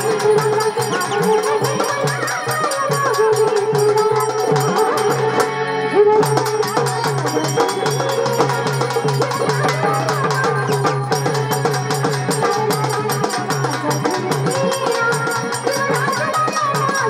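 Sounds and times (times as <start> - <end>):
hand drums beating: 0.0 - 5.5, 6.2 - 17.0.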